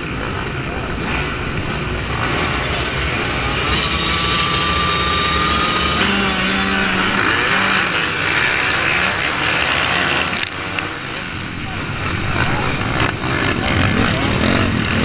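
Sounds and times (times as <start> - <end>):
dirt bikes accelerating: 0.0 - 15.0.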